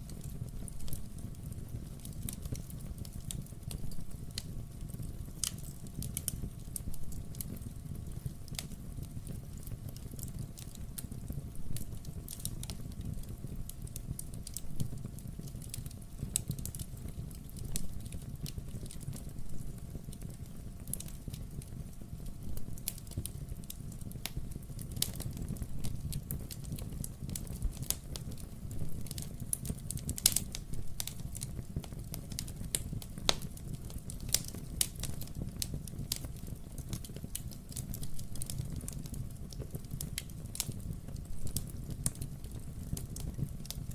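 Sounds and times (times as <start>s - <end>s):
low fire rumble: 0.0s - 43.9s
wood fire crackling and popping: 0.0s - 43.9s.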